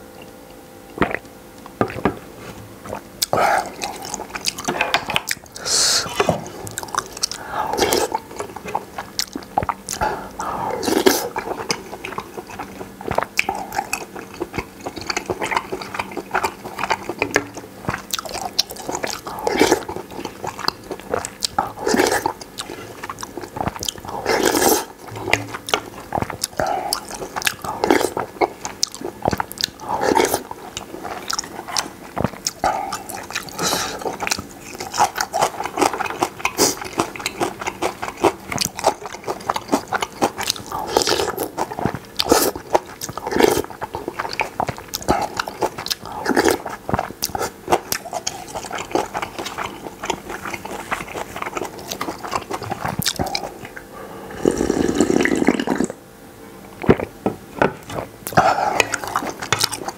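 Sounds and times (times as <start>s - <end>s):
slurping noodles: 2.8s - 53.7s, 54.3s - 56.0s, 57.9s - 59.9s.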